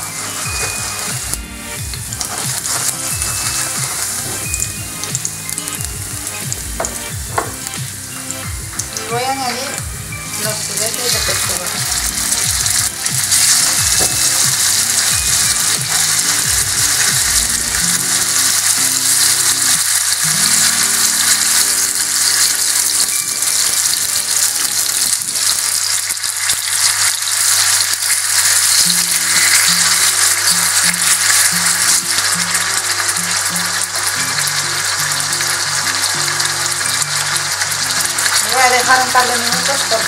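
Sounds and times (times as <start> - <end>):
meat sizzling in a frying pan: 0.0 - 40.0.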